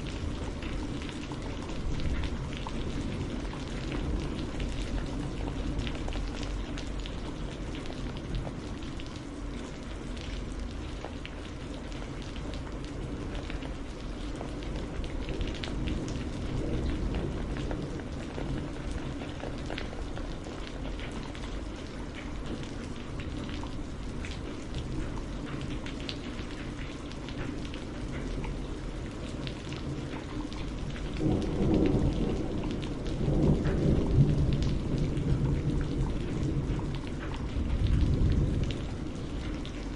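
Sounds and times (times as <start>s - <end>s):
low rumble of thunder: 0.0s - 39.9s
steady rain falling: 0.0s - 39.9s.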